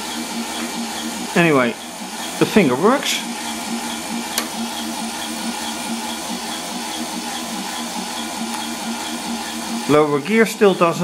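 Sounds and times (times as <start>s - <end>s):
electric motors humming: 0.0s - 11.0s.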